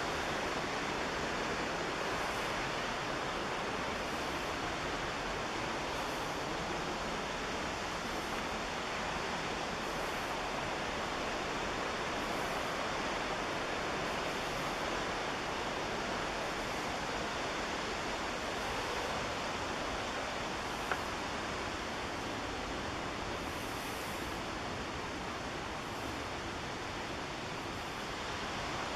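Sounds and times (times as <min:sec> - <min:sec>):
river white water rushing: 0:00.0 - 0:28.9.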